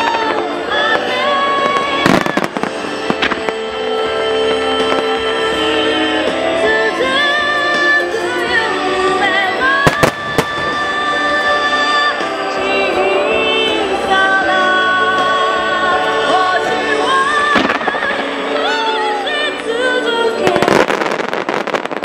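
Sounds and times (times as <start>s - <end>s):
fireworks bursting: 0.0s - 22.0s
song with sung melody: 0.0s - 22.0s.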